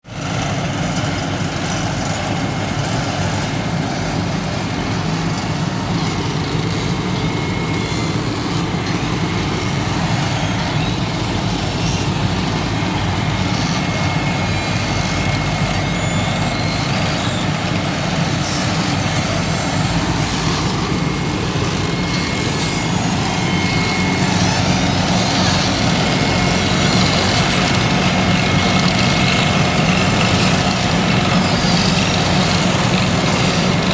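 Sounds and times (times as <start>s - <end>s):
diesel engine running: 0.0s - 33.9s
high whine: 0.6s - 33.9s.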